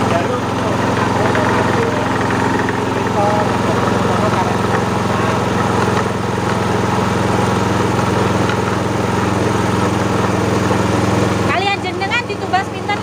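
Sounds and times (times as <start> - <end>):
grinding mill droning: 0.0 - 13.0.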